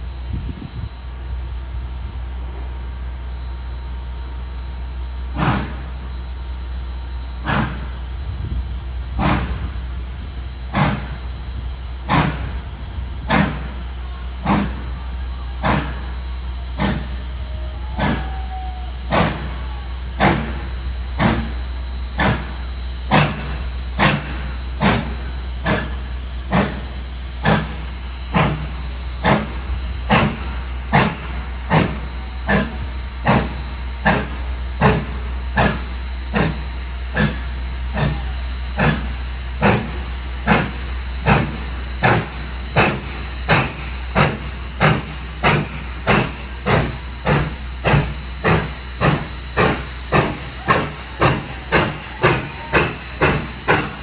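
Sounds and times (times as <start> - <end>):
steam locomotive exhaust chuffing: 0.0 - 54.0.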